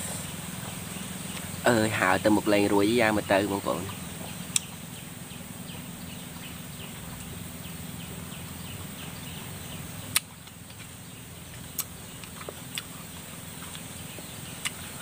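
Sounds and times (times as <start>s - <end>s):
faint high chirping: 0.0s - 15.0s
outdoor background noise: 0.0s - 15.0s.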